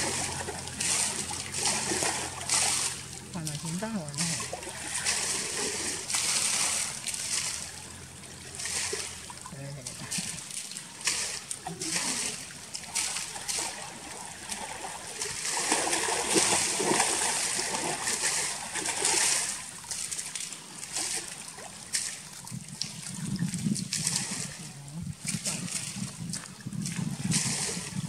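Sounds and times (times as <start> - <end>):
water splashing: 0.0 - 28.0.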